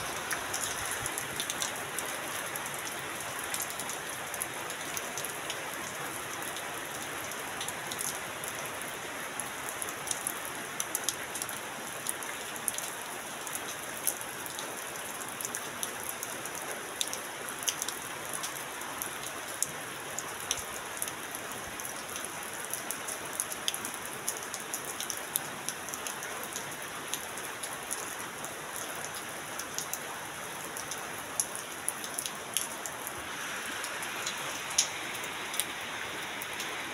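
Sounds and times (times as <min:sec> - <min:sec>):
heavy rain on a metal roof: 0:00.0 - 0:36.9
rain drips and taps: 0:00.0 - 0:36.9.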